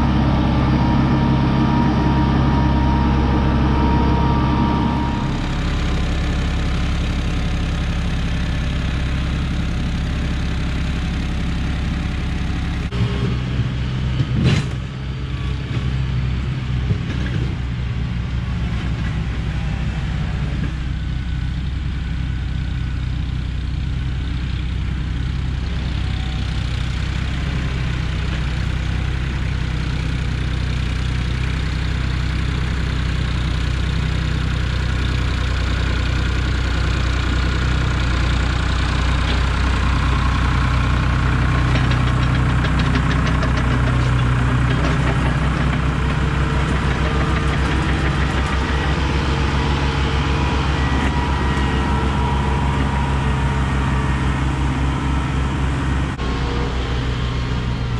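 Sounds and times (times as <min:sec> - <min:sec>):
diesel tractor engines running: 0:00.0 - 0:57.9.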